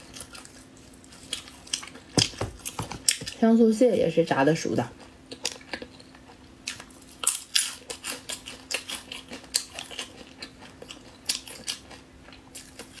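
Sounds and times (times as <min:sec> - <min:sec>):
crunching crispy food: 0:00.0 - 0:03.4, 0:04.9 - 0:13.0
faint steady hum: 0:00.0 - 0:13.0.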